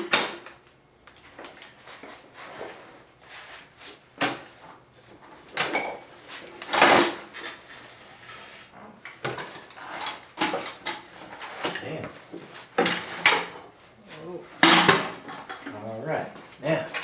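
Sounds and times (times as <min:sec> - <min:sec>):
objects clunking and scraping: 0:00.0 - 0:17.0.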